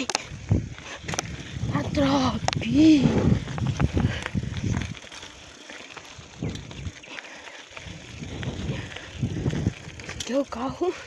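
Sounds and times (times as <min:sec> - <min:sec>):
bike tyres rolling over gravel: 0:00.0 - 0:11.0.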